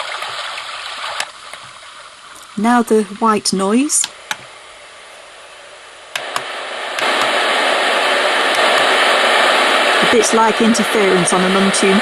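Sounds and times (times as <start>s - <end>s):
white noise hiss: 0.0s - 12.0s.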